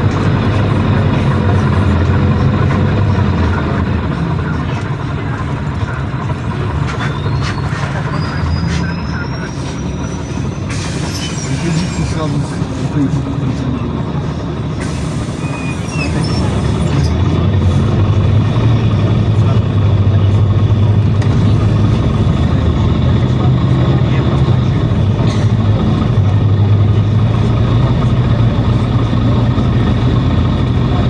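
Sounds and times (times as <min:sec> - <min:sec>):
bus engine running: 0:00.0 - 0:31.0
road noise: 0:00.0 - 0:31.0.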